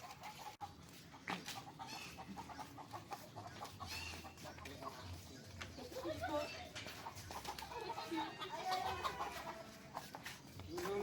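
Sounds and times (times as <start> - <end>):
faint bird calls: 0.0 - 10.8.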